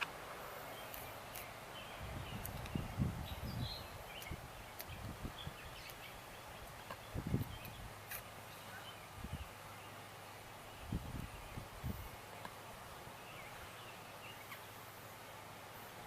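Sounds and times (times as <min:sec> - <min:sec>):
steady outdoor hiss: 0:00.0 - 0:16.0
faint bird chirps: 0:00.7 - 0:11.8, 0:13.1 - 0:14.9.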